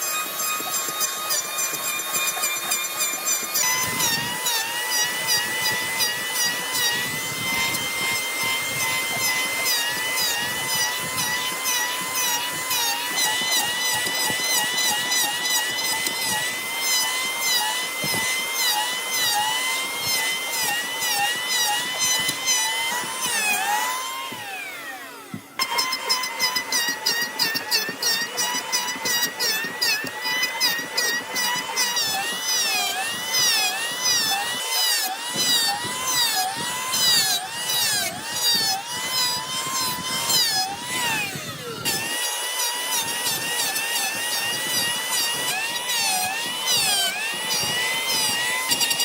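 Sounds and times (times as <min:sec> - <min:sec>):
electric power tool whining: 0:00.0 - 0:49.0.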